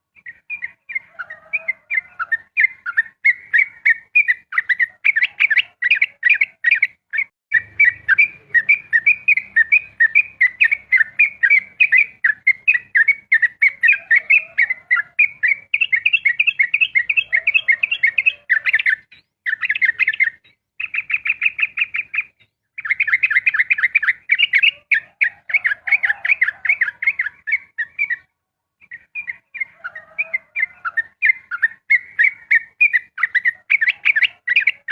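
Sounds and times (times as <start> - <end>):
bird singing rapid chirping notes: 0.0 - 34.9.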